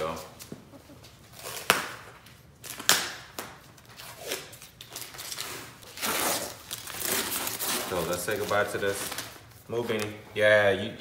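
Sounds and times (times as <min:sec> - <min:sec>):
tape ripping off floor: 0:01.2 - 0:10.2.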